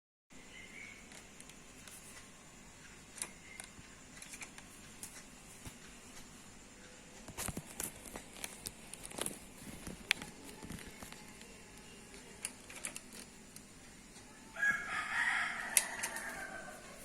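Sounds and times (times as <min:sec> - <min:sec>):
faint clicks and handling noises: 0:01.0 - 0:14.4, 0:15.6 - 0:17.0.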